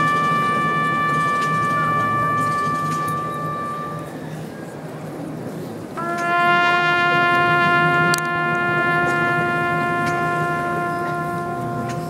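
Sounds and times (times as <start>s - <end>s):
brass holding long note: 0.0s - 4.5s, 6.0s - 12.0s.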